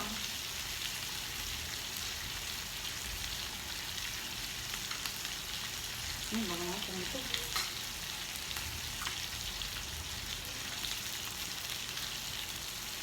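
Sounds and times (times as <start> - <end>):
beef sizzling on grill pan: 0.0 - 13.0.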